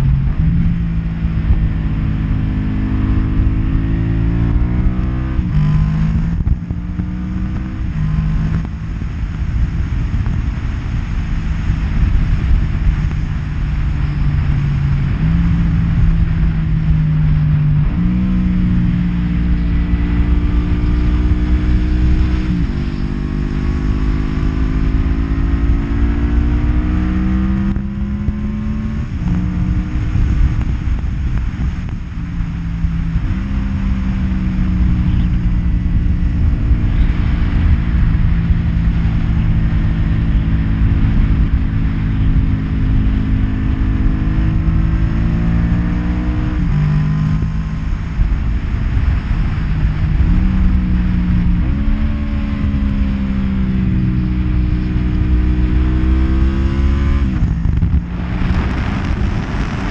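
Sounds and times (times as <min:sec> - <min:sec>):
motorcycle engine revving through gears: 0:00.0 - 0:59.9.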